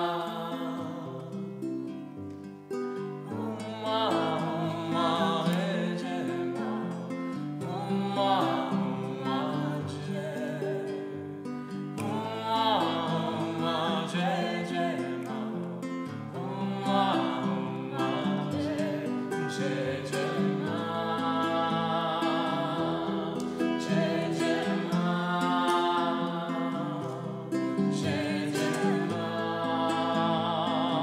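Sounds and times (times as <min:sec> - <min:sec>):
woman and man singing: 0:00.0 - 0:01.4, 0:03.3 - 0:11.2, 0:12.0 - 0:31.0
acoustic guitar: 0:00.0 - 0:31.0.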